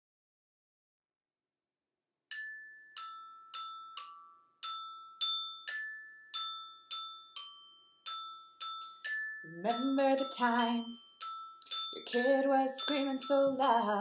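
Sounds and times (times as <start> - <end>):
toy xylophone melody: 2.3 - 14.0.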